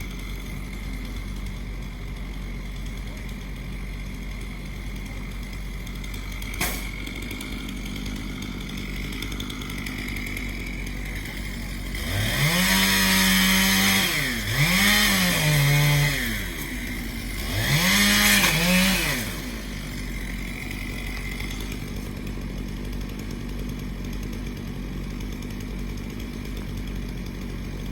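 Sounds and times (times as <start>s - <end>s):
chainsaw revving: 0.0s - 27.9s.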